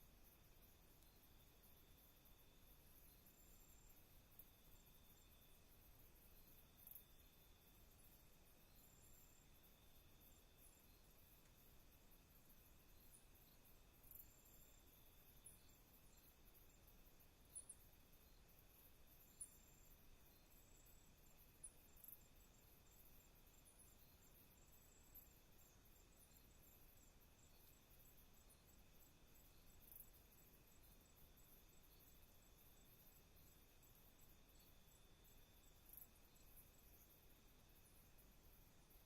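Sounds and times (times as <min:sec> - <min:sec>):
crickets chirring: 0:00.0 - 0:39.0
sharp insect chirps: 0:00.0 - 0:39.0.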